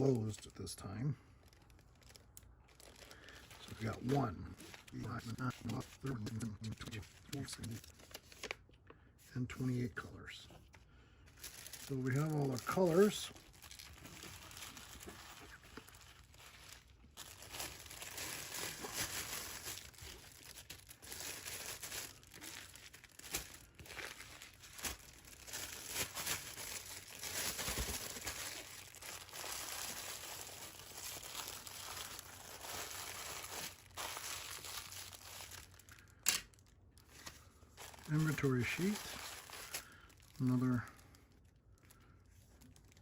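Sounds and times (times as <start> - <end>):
plastic packaging crinkling: 0.0 - 8.8, 10.6 - 43.0.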